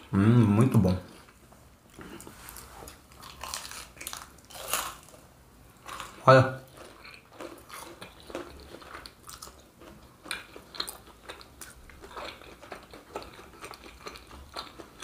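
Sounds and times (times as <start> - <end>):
chewing crispy fried pastry: 1.1 - 5.2, 5.8 - 15.0.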